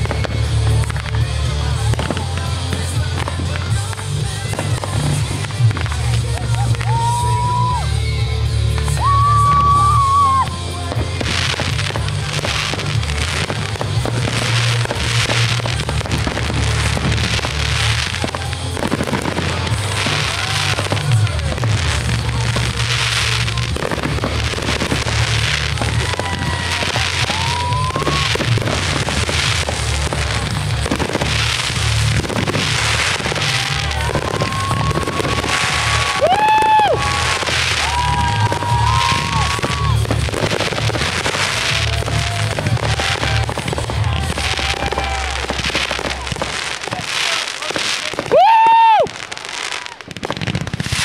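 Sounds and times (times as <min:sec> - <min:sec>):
music with heavy bass: 0:00.0 - 0:46.8
fireworks bursting: 0:00.0 - 0:51.0.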